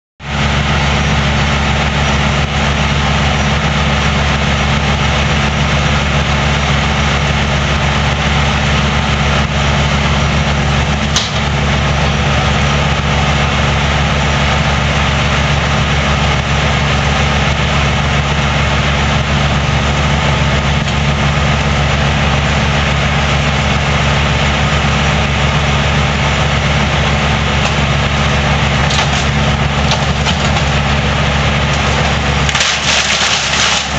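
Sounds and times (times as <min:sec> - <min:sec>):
heavy engine running: 0:00.2 - 0:33.9.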